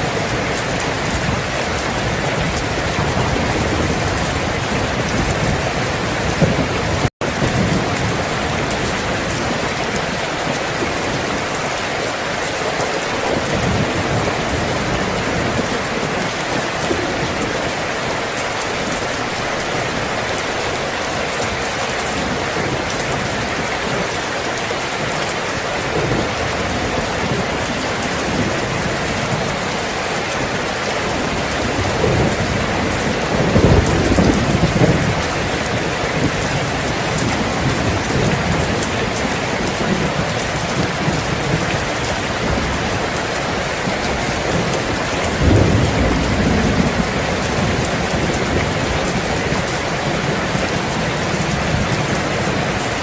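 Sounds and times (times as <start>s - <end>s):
heavy rain falling: 0.0s - 53.0s
distant thunder rumbling: 0.1s - 11.8s, 12.9s - 21.0s, 25.0s - 53.0s.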